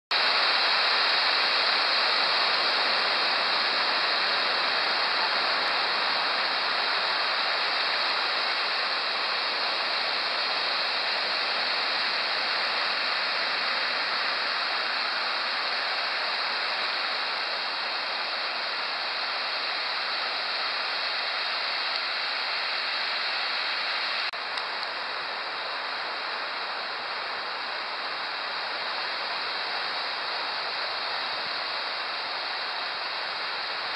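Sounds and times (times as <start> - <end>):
ocean waves breaking on beach: 0.2 - 33.9.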